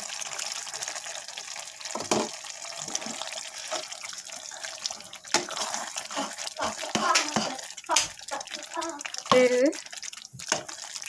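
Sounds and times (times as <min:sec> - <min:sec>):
curry simmering and sizzling: 0:00.0 - 0:11.0.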